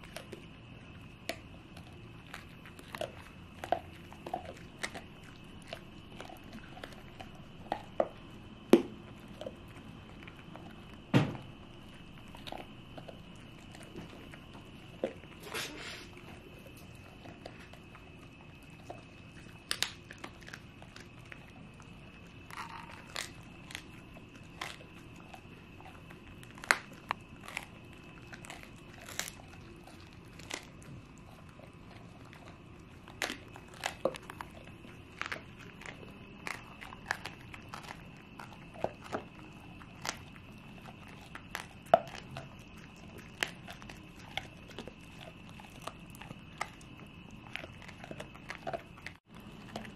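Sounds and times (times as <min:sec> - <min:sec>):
dogs crunching treats: 0:00.0 - 0:49.9.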